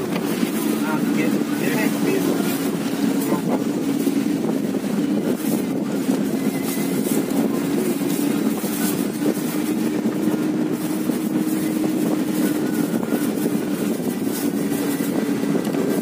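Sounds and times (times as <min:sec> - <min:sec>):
car engine drone: 0:00.0 - 0:16.0
tyres and wind rushing: 0:00.0 - 0:16.0.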